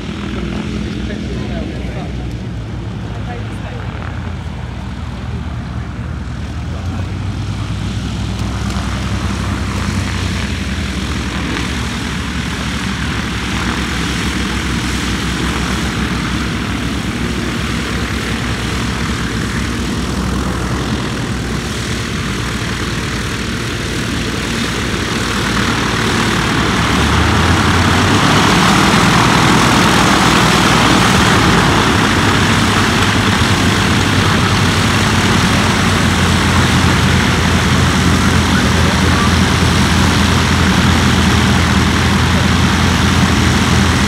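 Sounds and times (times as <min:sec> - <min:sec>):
propeller engines running: 0:00.0 - 0:44.0.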